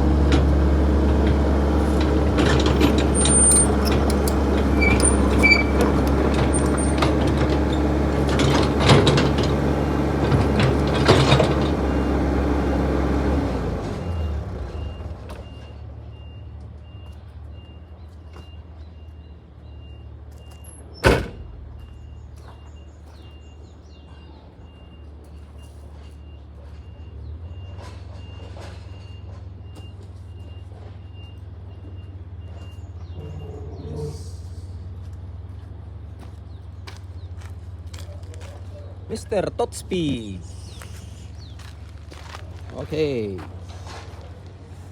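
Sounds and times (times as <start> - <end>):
backhoe engine running: 0.0 - 44.9.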